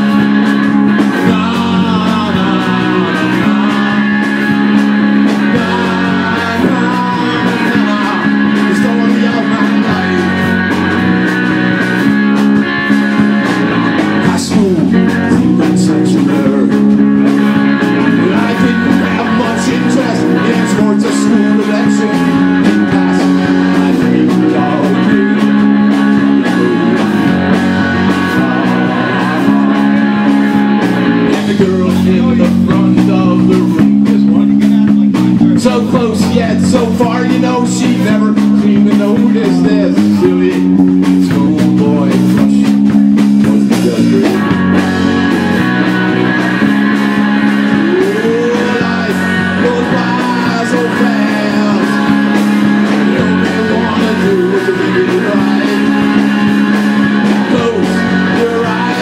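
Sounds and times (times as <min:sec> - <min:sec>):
live rock trio playing: 0:00.0 - 0:59.0.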